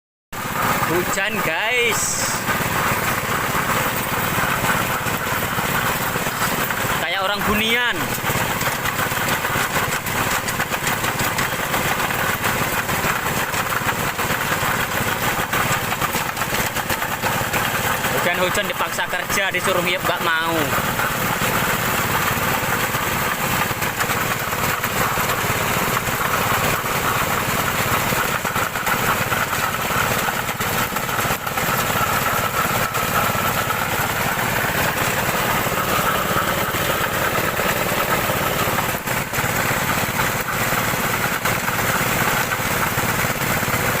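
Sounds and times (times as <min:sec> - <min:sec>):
drilling machine engine running: 0:00.4 - 0:44.0.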